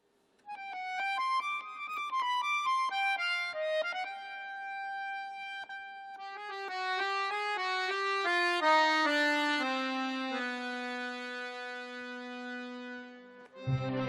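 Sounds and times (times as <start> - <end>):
instrumental melody with bowed tone: 0.8 - 14.0.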